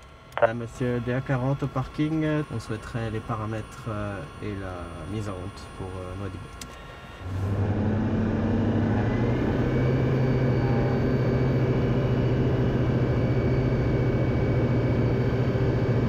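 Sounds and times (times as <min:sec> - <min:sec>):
aircraft engine and propeller drone: 0:00.0 - 0:16.0.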